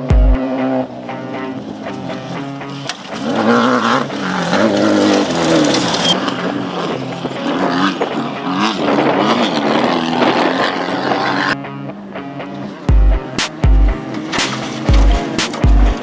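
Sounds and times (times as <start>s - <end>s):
race vehicle engine revving: 0.0s - 16.0s.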